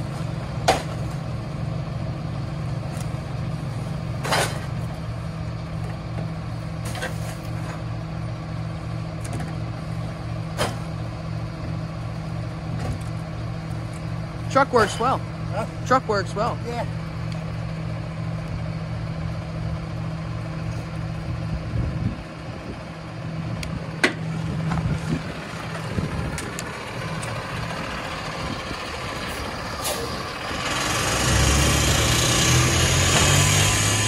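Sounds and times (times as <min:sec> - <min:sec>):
diesel truck engine: 0:00.0 - 0:34.0.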